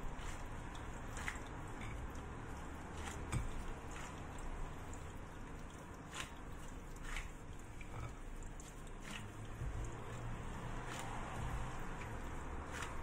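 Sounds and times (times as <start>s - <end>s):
dough squishing: 0.0s - 13.0s.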